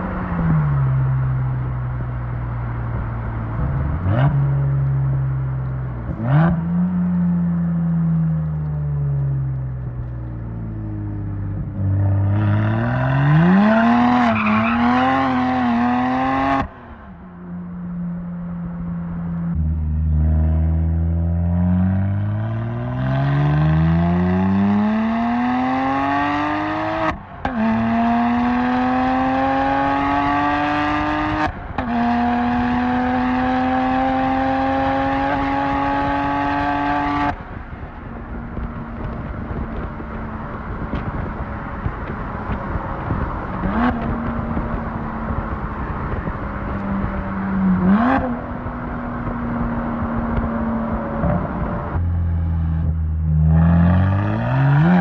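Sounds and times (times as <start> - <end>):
car engine accelerating hard: 5.9 - 17.1, 18.7 - 55.0.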